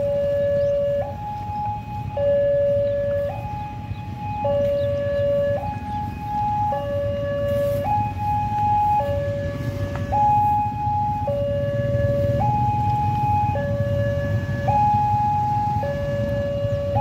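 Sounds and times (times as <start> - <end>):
two-tone level crossing alarm: 0.0 - 17.0.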